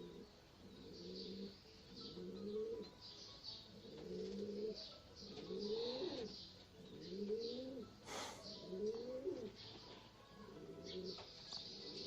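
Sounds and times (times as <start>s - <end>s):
pigeons cooing: 0.0s - 3.0s, 3.6s - 9.6s, 10.4s - 12.0s
small birds chirping: 0.0s - 12.0s.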